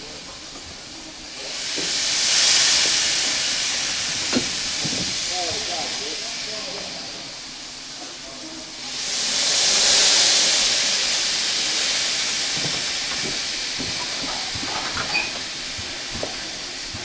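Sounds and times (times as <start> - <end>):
locomotive steam hiss: 0.0 - 17.0.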